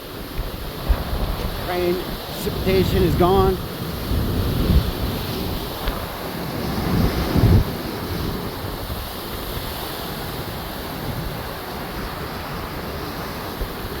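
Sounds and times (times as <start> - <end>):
storm surf pounding rocky shore: 0.0 - 14.0
wind buffeting microphone: 0.0 - 14.0.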